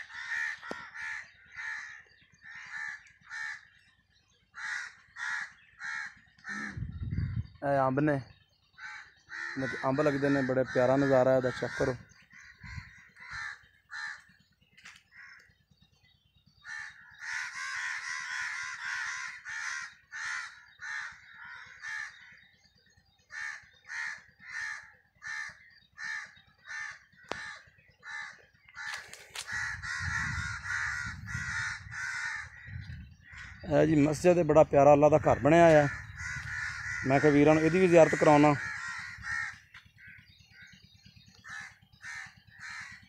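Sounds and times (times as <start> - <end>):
crows cawing: 0.0 - 43.0.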